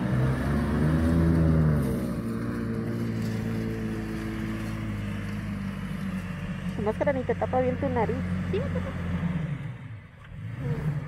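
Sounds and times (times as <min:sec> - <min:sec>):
pickup engine revving: 0:00.0 - 0:11.0.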